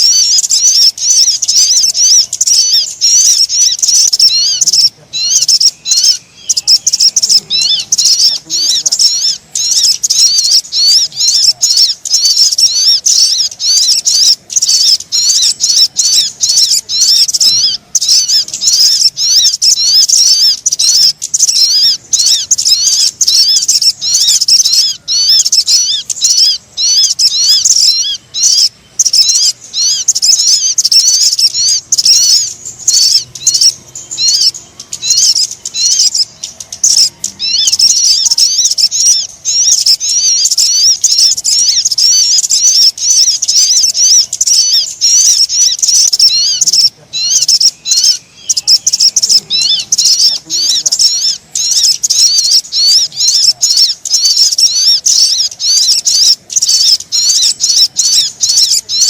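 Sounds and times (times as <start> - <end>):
bird lure call chirps: 0.0 - 59.0.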